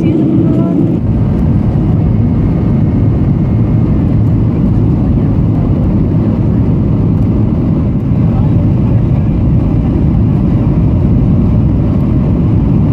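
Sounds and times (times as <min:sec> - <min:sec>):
airplane cabin engine rumble: 0:00.0 - 0:12.9.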